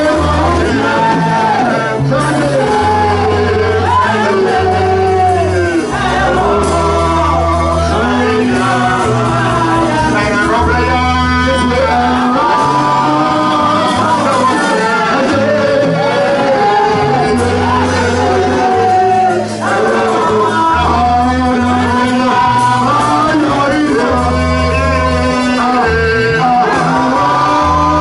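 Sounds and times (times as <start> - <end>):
keyboard bass notes: 0.0 - 28.0
man singing into microphone: 0.0 - 28.0.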